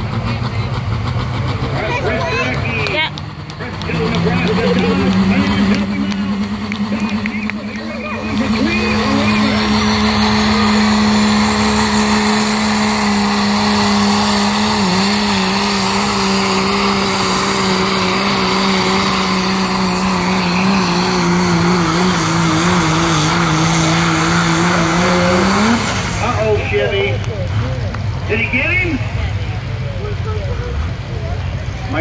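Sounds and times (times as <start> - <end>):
diesel engine droning at full throttle: 0.0 - 32.0.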